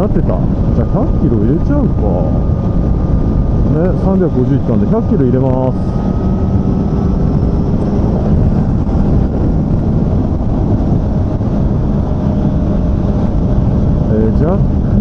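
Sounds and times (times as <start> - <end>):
motorcycle engine running: 0.0 - 15.0
rush of riding wind: 0.0 - 15.0.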